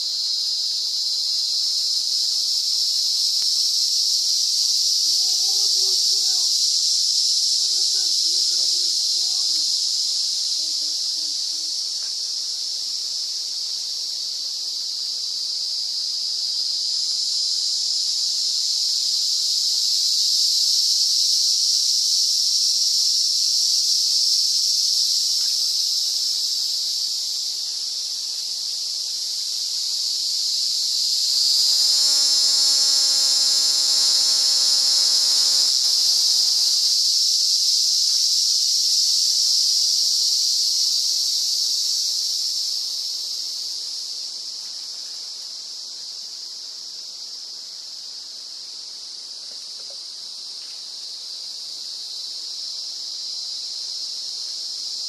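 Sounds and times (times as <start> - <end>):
cicada buzzing: 0.0 - 55.0.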